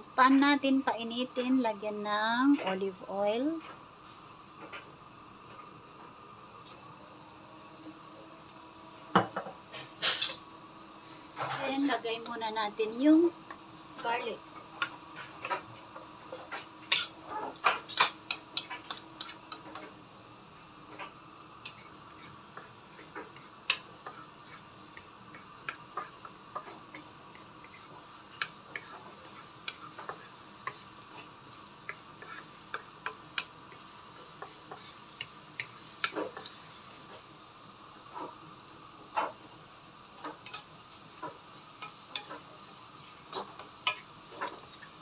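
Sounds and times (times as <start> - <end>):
garlic sizzling and popping in oil: 8.4 - 45.0.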